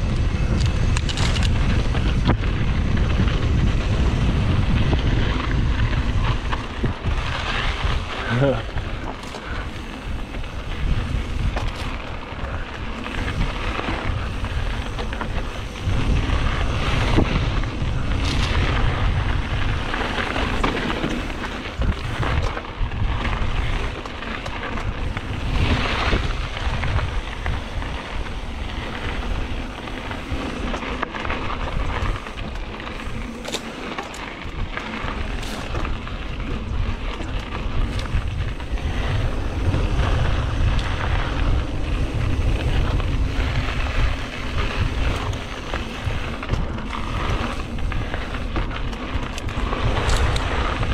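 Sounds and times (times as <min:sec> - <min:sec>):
bike clicks and rattles: 0:00.0 - 0:50.9
tyre noise on dirt: 0:00.0 - 0:50.9
wind buffeting microphone: 0:00.0 - 0:50.9.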